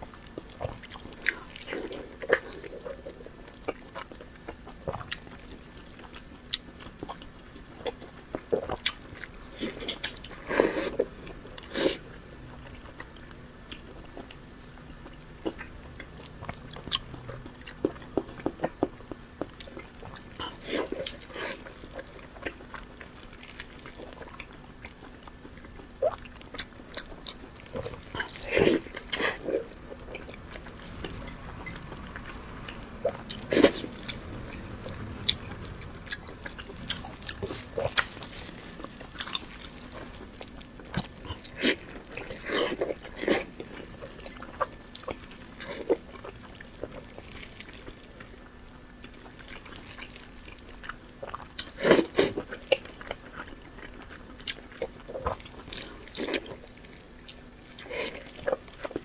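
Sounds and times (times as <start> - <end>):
person chewing and biting: 0.0 - 59.0.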